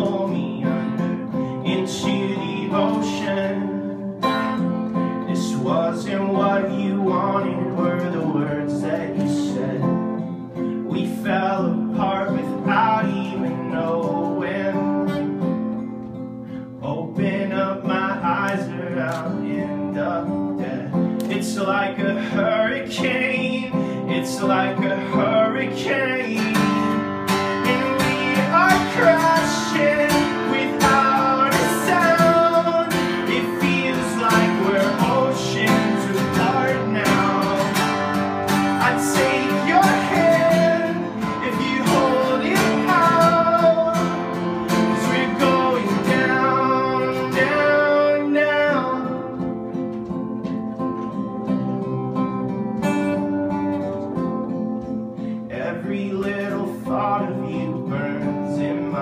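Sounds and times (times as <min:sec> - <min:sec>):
man singing: 0:00.0 - 0:15.8, 0:16.6 - 0:50.4, 0:55.4 - 0:59.0
acoustic guitar strumming: 0:00.0 - 0:59.0.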